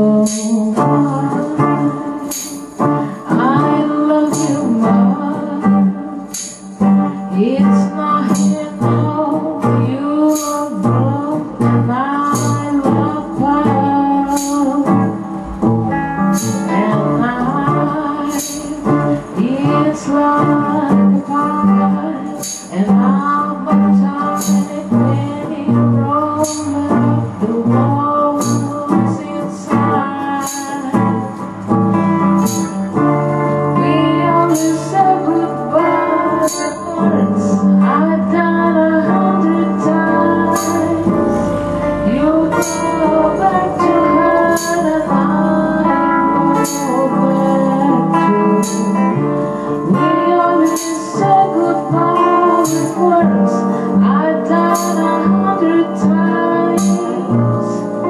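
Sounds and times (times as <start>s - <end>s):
electric guitar: 0.0s - 58.0s
tambourine: 0.0s - 58.0s
woman singing into microphone: 0.0s - 58.0s.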